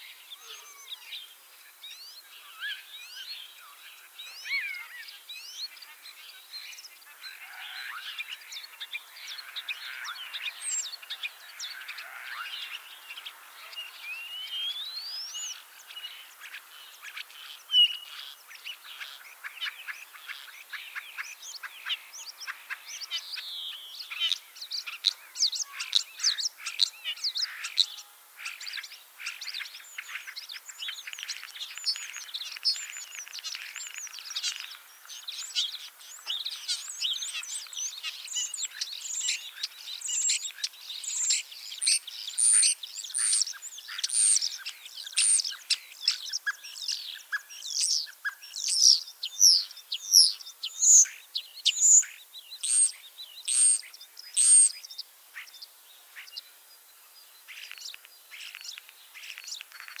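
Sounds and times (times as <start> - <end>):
songbirds chirping: 0.0 - 60.0.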